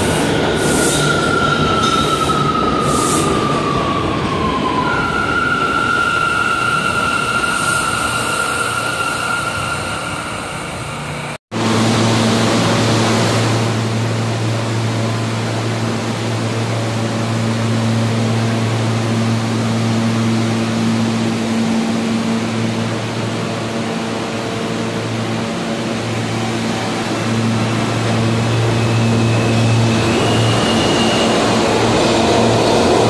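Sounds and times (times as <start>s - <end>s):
subway train passing: 0.0s - 33.0s.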